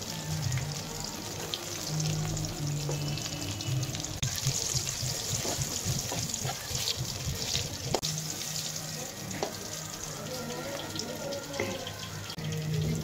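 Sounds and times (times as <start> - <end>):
oil sizzling around frying vegetables: 0.0 - 13.0.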